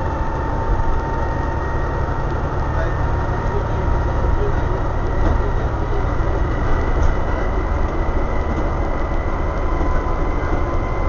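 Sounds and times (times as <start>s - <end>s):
bus diesel engine drone: 0.0s - 11.0s
road rumble: 0.0s - 11.0s.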